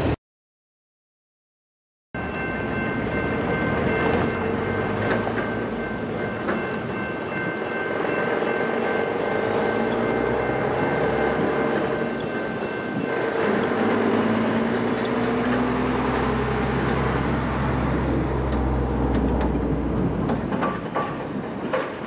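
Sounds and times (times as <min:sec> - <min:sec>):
freight train rumble: 0:02.2 - 0:22.0.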